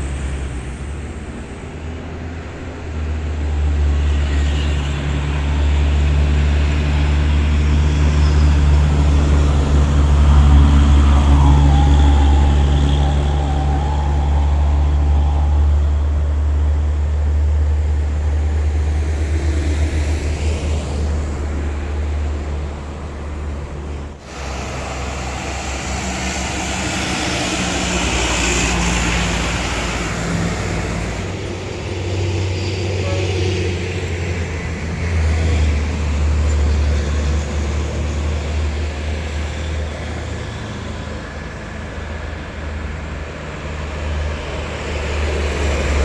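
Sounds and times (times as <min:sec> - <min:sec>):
diesel truck engines climbing: 0:00.0 - 0:46.0.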